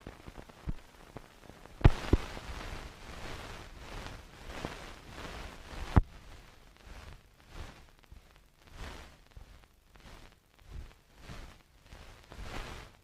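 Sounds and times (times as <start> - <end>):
film soundtrack crackle and hiss: 0.0 - 13.0.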